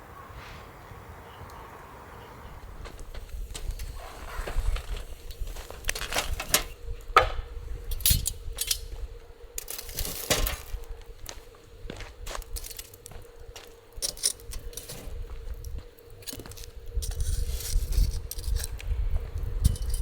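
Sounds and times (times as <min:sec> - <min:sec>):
wind rumble on microphone: 0:00.6 - 0:20.0
wood fire crackling: 0:00.7 - 0:20.0.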